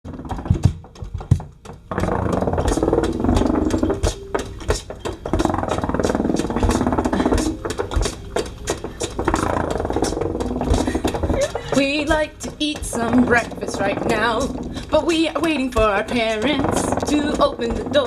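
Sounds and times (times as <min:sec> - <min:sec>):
fast irregular tapping: 0:00.0 - 0:18.0.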